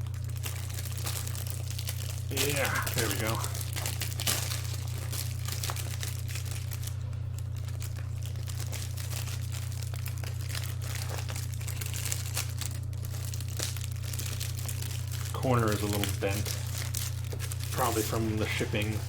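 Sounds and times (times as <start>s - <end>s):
packaging crinkling: 0.0s - 19.0s
steady low hum: 0.0s - 19.0s.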